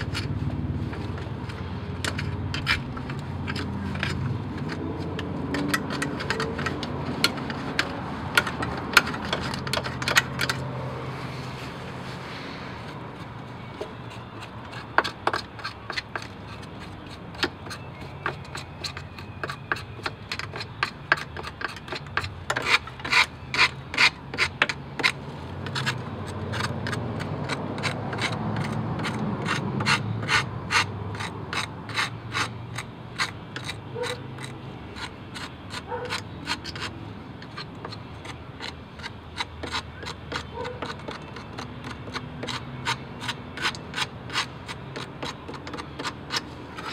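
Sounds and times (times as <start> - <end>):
screwdriver scraping metal: 0.0 - 10.7, 13.2 - 46.9.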